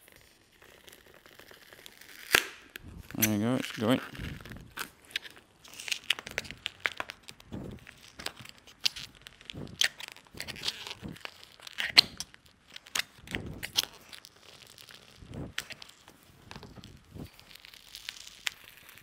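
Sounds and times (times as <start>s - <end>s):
tape tearing: 0.0s - 19.0s
plastic crackling and clicking: 1.1s - 19.0s.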